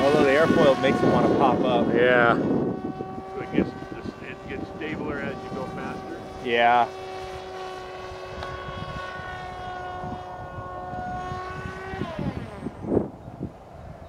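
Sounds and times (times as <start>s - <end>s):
electric motor and propeller whining: 0.0s - 14.0s
wind rumble on microphone: 0.0s - 14.0s.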